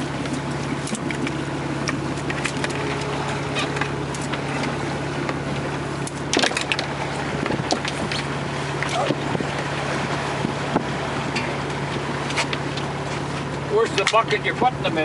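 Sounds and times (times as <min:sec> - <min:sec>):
boat engine running: 0:00.0 - 0:15.0
water noise: 0:00.0 - 0:15.0
wind: 0:00.0 - 0:15.0.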